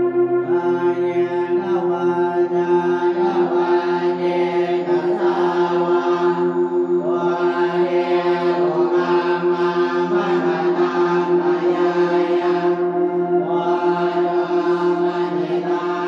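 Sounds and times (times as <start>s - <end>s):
chanting: 0.0s - 16.0s
steady held drone: 0.0s - 16.0s.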